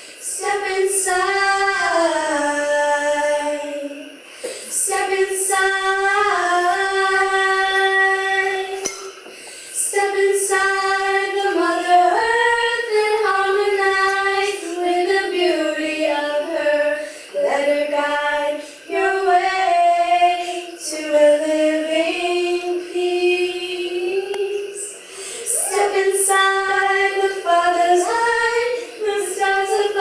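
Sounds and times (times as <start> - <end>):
children singing slow song: 0.0 - 30.0.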